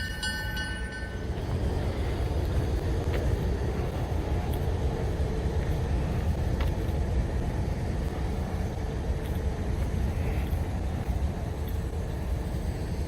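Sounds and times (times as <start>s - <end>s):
locomotive engine idling: 0.0s - 13.0s.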